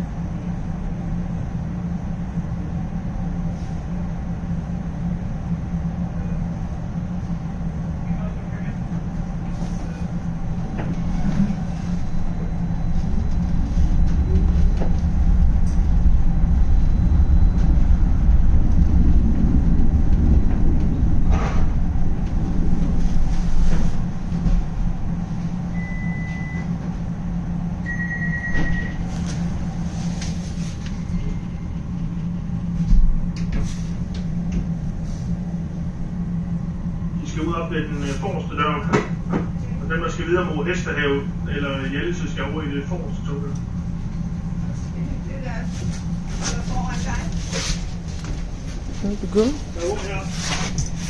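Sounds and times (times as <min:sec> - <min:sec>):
tram wheels rumbling and humming: 0:00.0 - 0:51.0.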